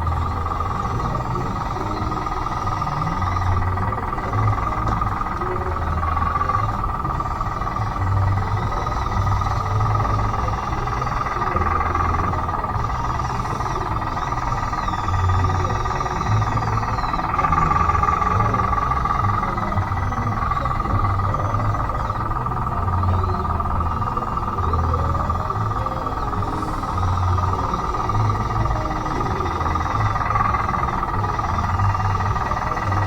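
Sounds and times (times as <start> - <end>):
electric motor whine: 0.0 - 33.0
low motor hum: 0.0 - 33.0.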